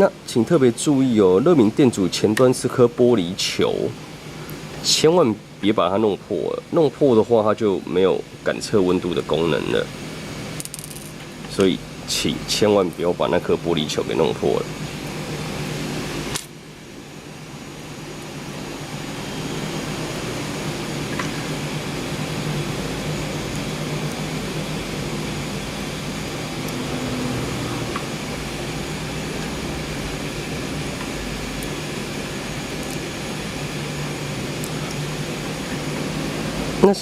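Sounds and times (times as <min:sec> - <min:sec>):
fan whirring hum: 0:00.0 - 0:37.0.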